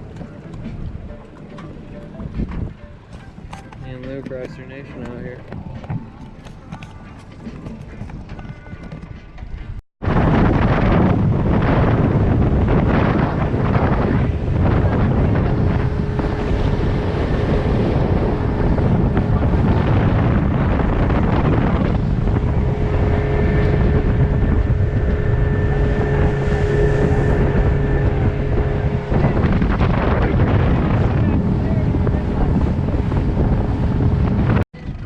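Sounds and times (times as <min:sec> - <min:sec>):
motorboat engine droning: 0:00.0 - 0:08.4, 0:10.0 - 0:34.6
wind buffeting microphone: 0:00.0 - 0:35.0.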